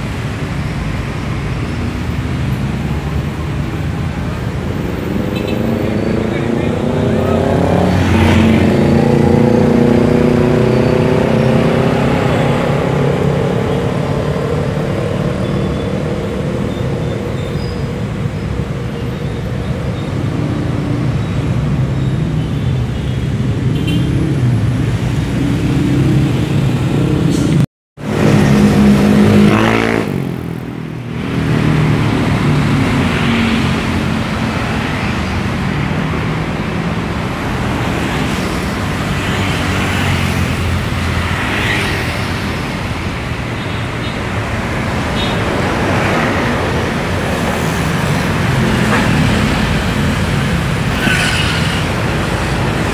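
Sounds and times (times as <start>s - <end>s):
cars passing: 0.0s - 52.9s
motorcycles passing: 0.0s - 52.9s.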